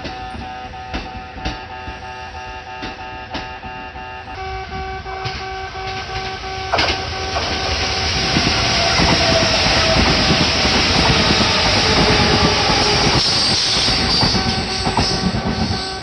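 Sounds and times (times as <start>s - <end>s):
train wheel and running noise: 0.0s - 16.0s.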